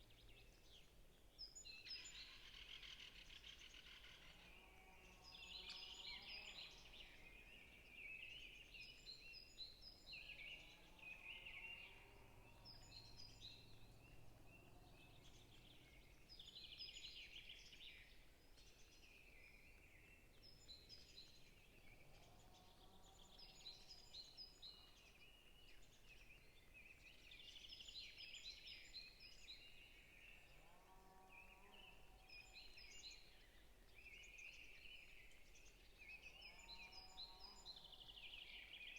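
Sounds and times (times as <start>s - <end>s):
small birds singing: 0.0s - 38.9s.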